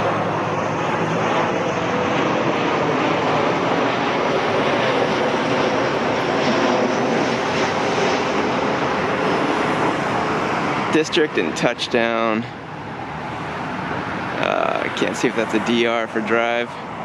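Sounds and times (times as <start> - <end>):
airplane engine roar: 0.0 - 17.0.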